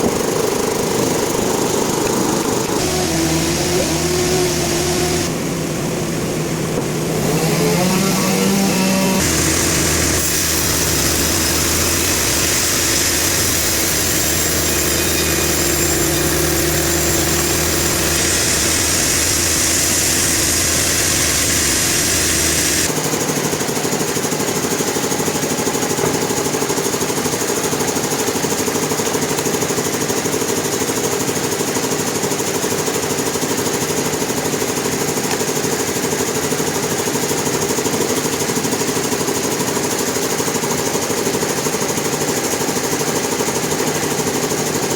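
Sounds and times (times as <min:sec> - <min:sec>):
sawmill machinery running: 0:00.0 - 0:23.2, 0:29.9 - 0:44.9.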